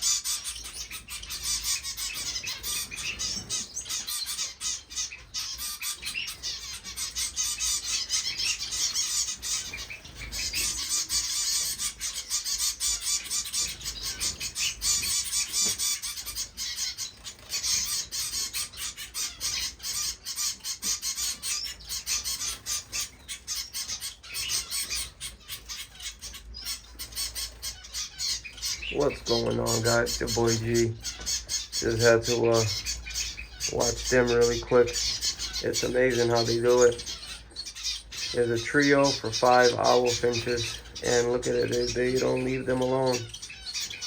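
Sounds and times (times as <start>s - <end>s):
finches chirping and chattering: 0.0s - 44.0s.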